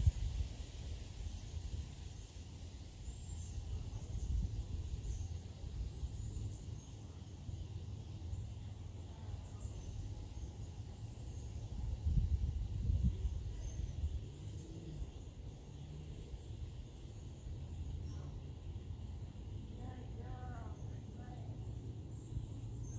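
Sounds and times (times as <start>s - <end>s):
steady low rumble: 0.0s - 22.9s.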